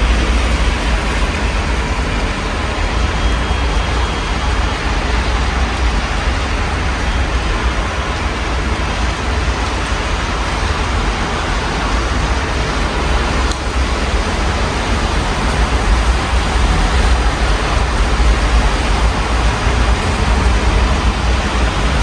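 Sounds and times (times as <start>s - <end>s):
city traffic rumble: 0.0s - 22.0s
steady rain: 0.0s - 22.0s.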